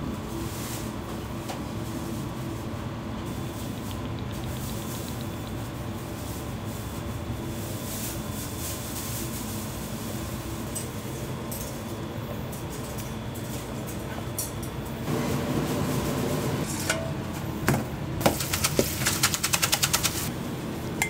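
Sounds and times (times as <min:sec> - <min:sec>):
low machine hum with whine: 0:00.0 - 0:18.4, 0:20.2 - 0:21.0.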